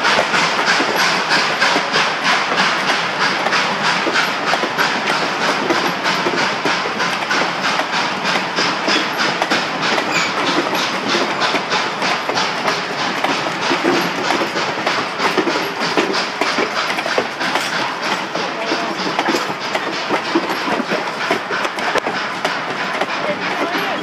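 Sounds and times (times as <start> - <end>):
train rumble: 0.0 - 24.0
train wheels clicking over track: 0.0 - 24.0.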